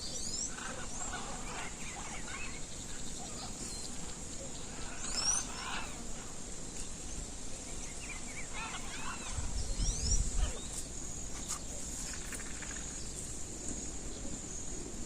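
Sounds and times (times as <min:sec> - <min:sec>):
birds chirping: 0:00.0 - 0:13.4.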